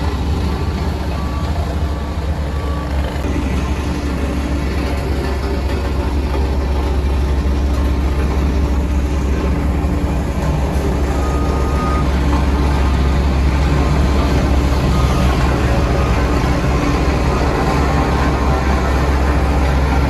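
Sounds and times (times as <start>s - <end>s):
heavy diesel engine rumbling: 0.0s - 20.0s.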